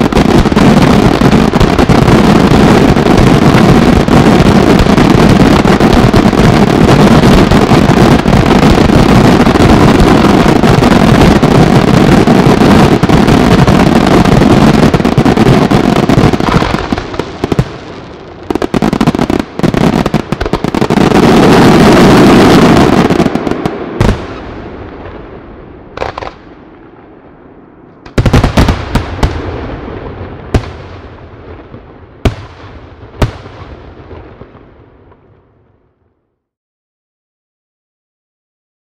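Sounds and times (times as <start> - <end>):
loud echoing firework bangs: 0.0 - 35.7
fireworks bursting and crackling: 0.0 - 36.0.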